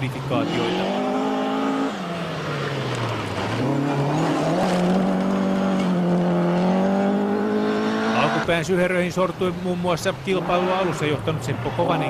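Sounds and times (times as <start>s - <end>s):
gravel and tyre noise: 0.0s - 12.0s
rally car engine revving: 0.0s - 12.0s.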